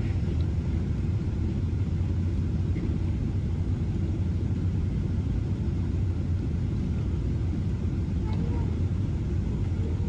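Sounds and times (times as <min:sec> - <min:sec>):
aircraft cabin engine rumble: 0:00.0 - 0:10.0.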